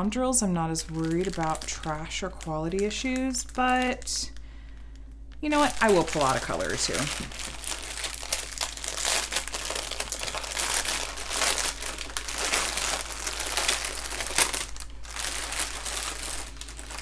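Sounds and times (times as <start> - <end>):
plastic packaging crinkling: 0.7 - 17.0.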